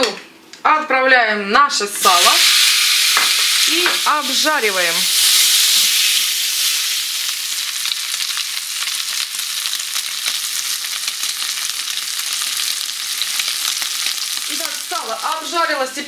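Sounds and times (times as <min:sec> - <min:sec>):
pork fat sizzling in frying pan: 0:02.0 - 0:16.0.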